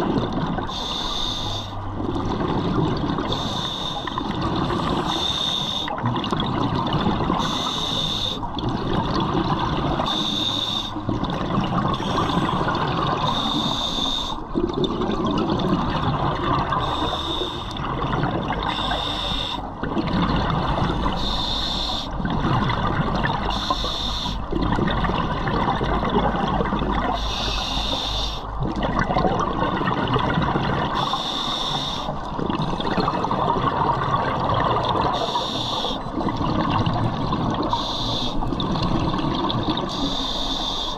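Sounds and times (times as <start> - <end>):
exhaled bubbles rumbling: 0.0 - 40.4.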